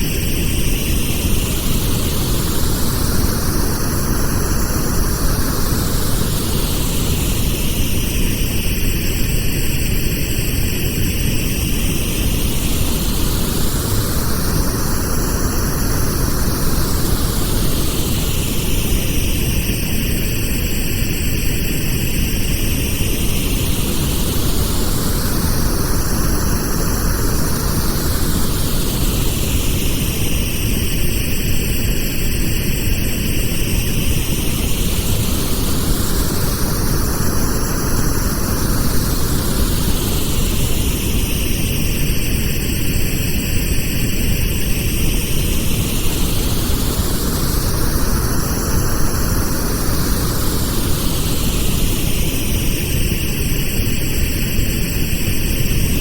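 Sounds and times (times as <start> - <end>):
pink noise hiss: 0.0 - 21.4, 22.1 - 54.8.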